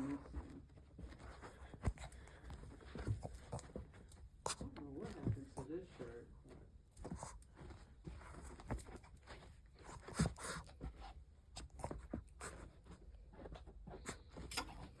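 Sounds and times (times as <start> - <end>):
dog scratching and rustling: 0.0 - 15.0.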